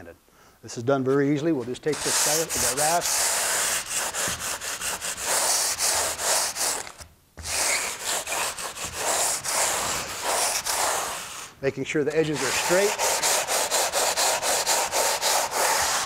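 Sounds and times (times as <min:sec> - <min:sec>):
rasp scraping styrofoam: 0:01.8 - 0:11.6, 0:12.2 - 0:16.0.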